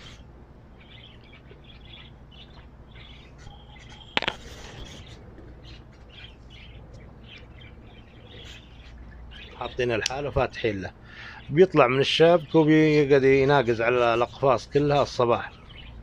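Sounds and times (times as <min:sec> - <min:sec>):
cage birds chirping: 0:00.0 - 0:16.0.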